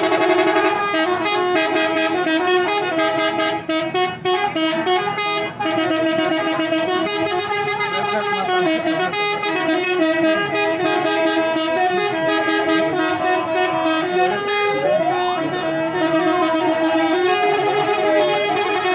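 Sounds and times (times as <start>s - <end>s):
multi-tone musical air horns: 0.0s - 18.9s.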